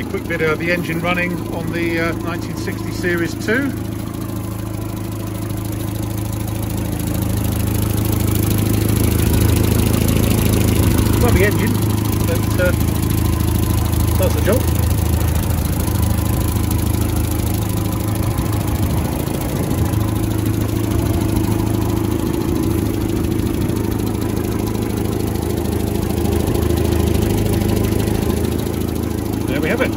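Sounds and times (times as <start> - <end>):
petrol engine idling: 0.0 - 29.9.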